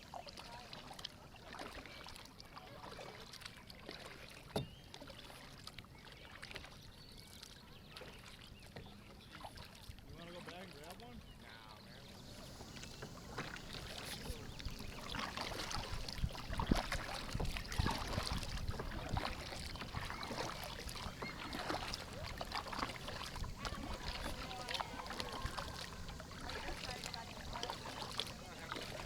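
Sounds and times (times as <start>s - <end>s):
paddles splashing in water: 0.0s - 29.0s.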